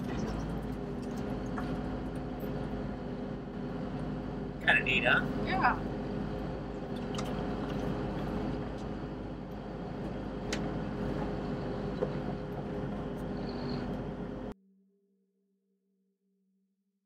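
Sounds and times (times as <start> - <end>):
diesel engine running: 0.0 - 14.6.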